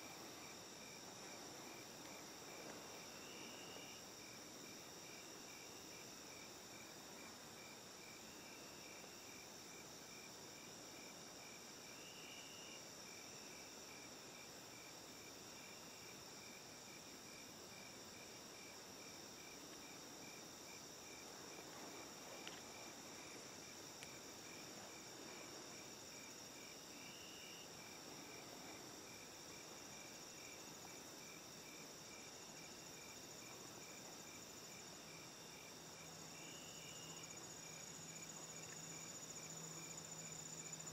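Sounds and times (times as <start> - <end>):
high-pitched insect trill: 0.0 - 40.9
insect chirping: 0.0 - 40.9.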